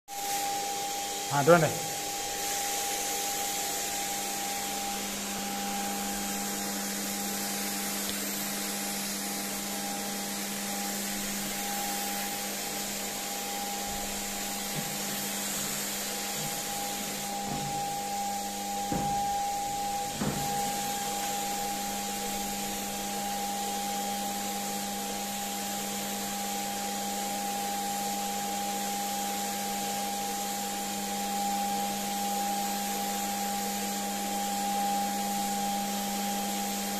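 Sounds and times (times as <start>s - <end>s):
paint sprayer hum and hiss: 0.1s - 36.9s.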